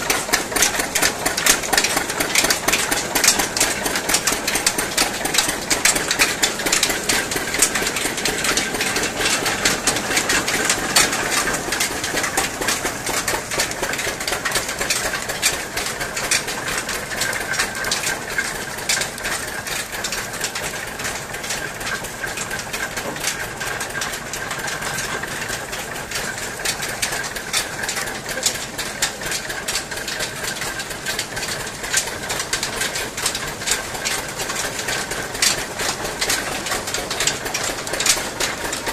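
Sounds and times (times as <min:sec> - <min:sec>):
crushing mill clattering: 0:00.0 - 0:38.9.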